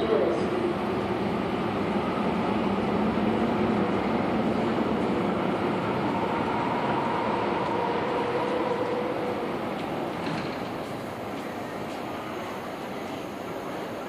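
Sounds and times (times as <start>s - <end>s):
train wheels rumbling: 0.0s - 13.8s
train whine: 0.0s - 14.0s.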